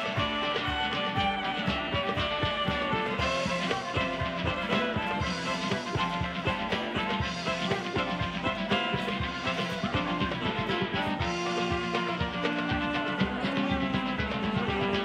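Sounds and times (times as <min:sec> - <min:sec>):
dance band playing: 0:00.0 - 0:15.0.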